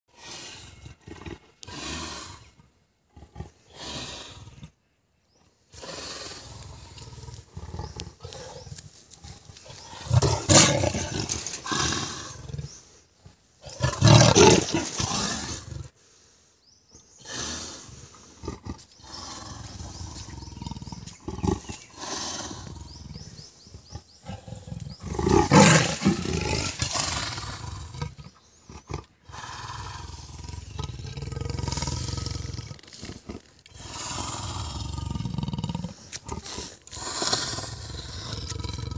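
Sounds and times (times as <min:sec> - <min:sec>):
leopard growling and snarling: 0:00.1 - 0:04.8, 0:05.7 - 0:16.0, 0:17.2 - 0:38.9.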